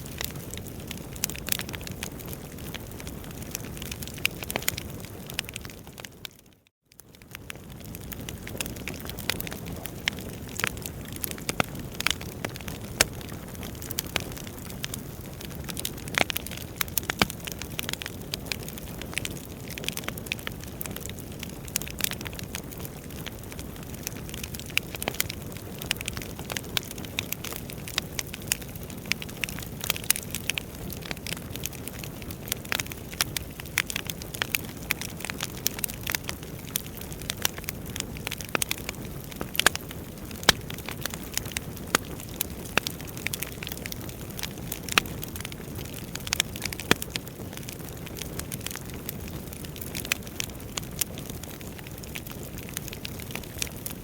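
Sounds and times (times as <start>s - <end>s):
logs crackling and popping: 0.0s - 54.0s
wood fire burning: 0.0s - 54.0s.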